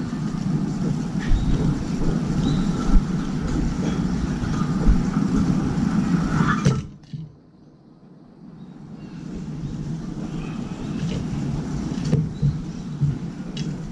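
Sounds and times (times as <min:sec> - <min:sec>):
low rumbling background noise: 0:00.0 - 0:13.9.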